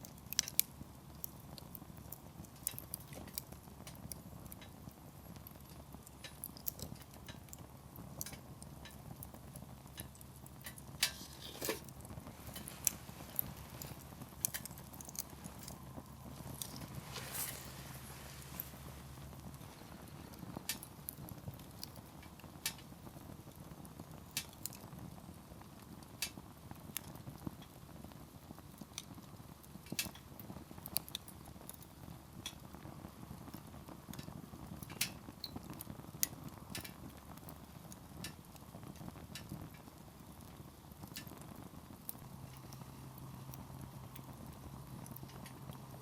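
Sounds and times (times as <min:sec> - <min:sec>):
firewood crackling and popping: 0:00.0 - 0:46.0
low fire roar: 0:00.0 - 0:46.0.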